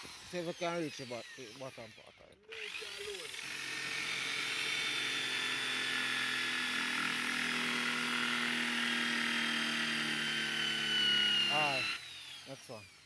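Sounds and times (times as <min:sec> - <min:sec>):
electric drill motor whine: 0:00.0 - 0:13.0.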